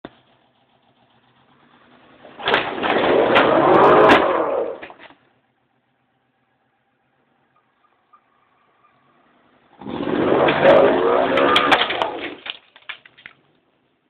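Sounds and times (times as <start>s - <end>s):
engine idling and revving: 0.0s - 12.4s.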